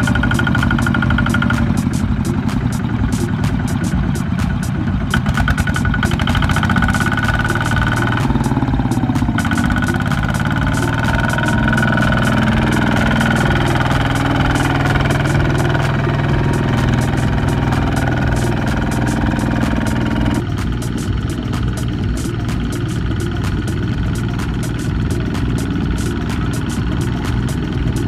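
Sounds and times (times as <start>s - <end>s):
diesel engine chugging: 0.0s - 28.0s
high whine: 0.0s - 28.0s
wheel churning mud: 0.0s - 28.0s.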